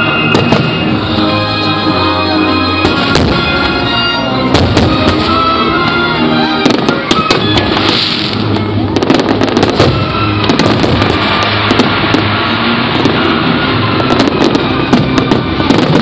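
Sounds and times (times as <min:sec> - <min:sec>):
fireworks exploding: 0:00.0 - 0:02.0, 0:02.6 - 0:16.0
loud show music: 0:00.0 - 0:16.0.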